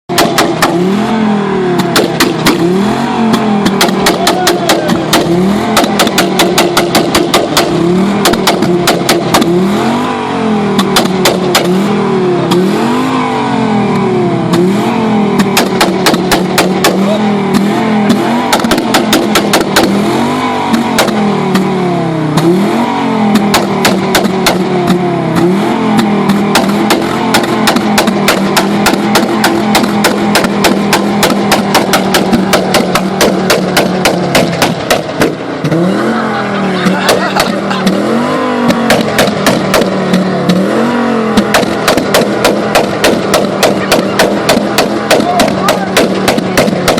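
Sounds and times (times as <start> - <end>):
exhaust pops and crackles: 0.0 - 1.0, 1.7 - 9.8, 10.7 - 12.8, 14.0 - 22.6, 23.3 - 35.8, 36.8 - 46.9
car engine revving: 0.0 - 46.9.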